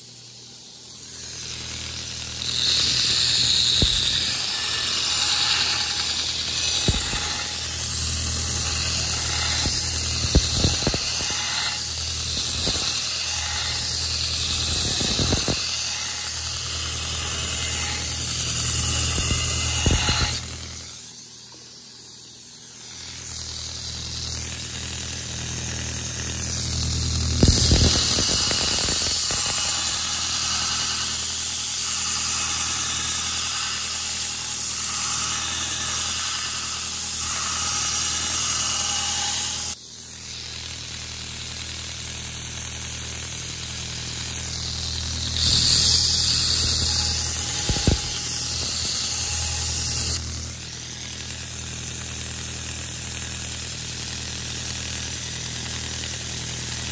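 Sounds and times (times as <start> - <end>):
grinder motor hum: 0.0 - 56.9
blade grinding on belt: 0.6 - 21.3, 22.2 - 41.4, 43.6 - 52.8.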